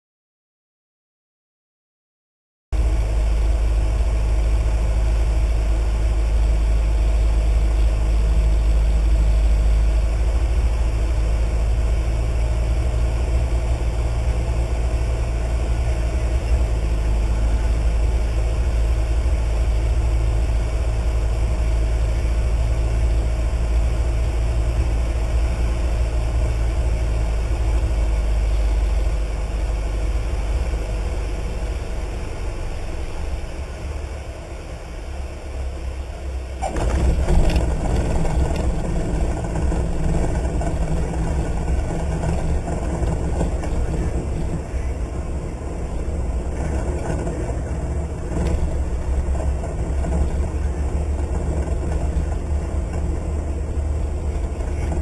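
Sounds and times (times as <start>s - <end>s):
airplane engine drone in cockpit: 2.8s - 55.0s.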